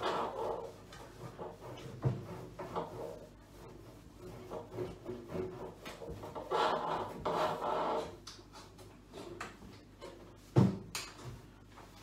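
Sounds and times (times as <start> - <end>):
rubbing and scraping: 0.0 - 12.0.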